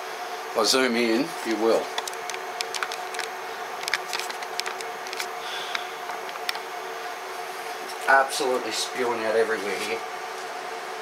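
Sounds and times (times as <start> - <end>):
air compressor humming: 0.1 - 11.0.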